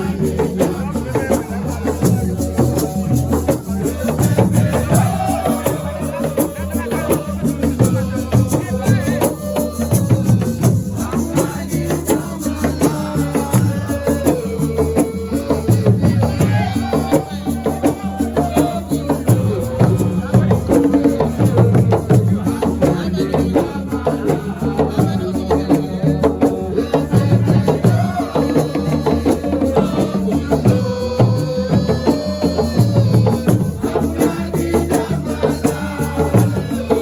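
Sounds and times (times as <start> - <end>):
drums: 0.0 - 37.0
person singing: 0.0 - 37.0.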